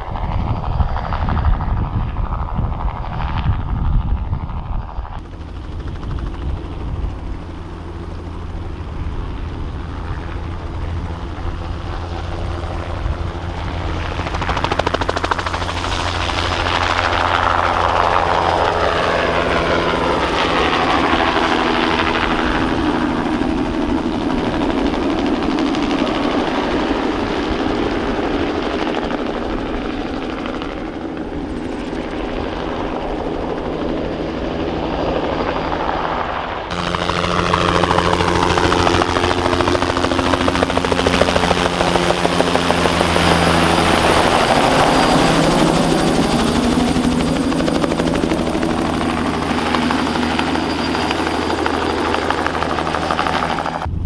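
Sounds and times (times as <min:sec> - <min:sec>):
helicopter flying past: 0:00.0 - 0:54.0.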